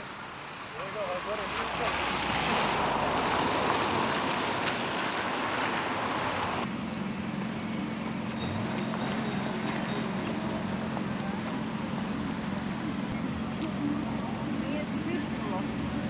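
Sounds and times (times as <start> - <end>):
traffic: 0.0 - 16.0
wind: 0.0 - 16.0.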